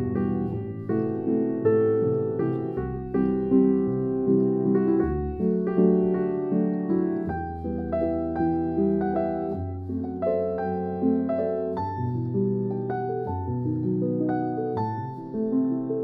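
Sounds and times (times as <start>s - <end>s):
calm solo piano: 0.0s - 16.0s.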